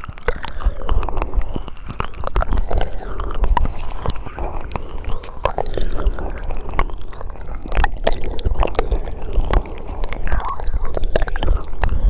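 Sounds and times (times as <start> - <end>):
wet mouth clicks and smacks: 0.0 - 12.0.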